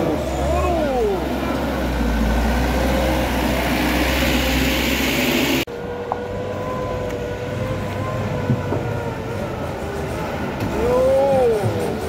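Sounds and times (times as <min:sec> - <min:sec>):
loud rumbling engine: 0:00.0 - 0:12.0.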